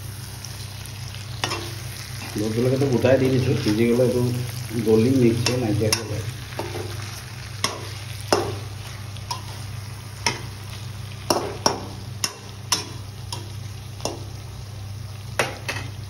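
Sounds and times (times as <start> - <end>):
curry sizzling: 0.0 - 16.0
steady low hum: 0.0 - 16.0.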